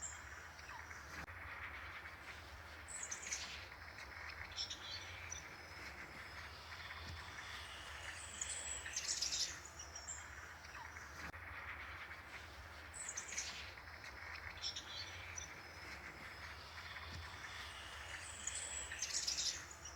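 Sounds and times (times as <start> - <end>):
small birds chirping: 2.1 - 11.3, 12.1 - 19.9.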